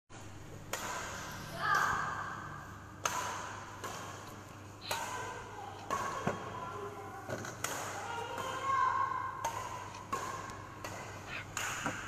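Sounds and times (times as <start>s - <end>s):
rackets hitting shuttlecock: 0.6s - 12.0s.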